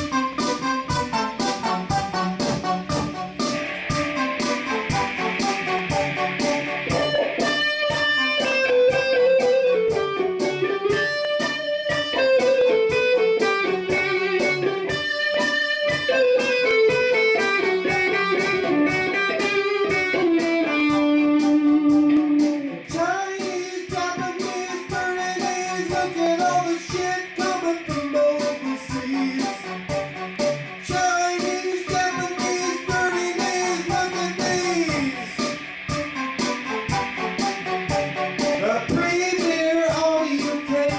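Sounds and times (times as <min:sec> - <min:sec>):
backing loop: 0:00.0 - 0:40.9
electric guitar melody: 0:00.0 - 0:40.9.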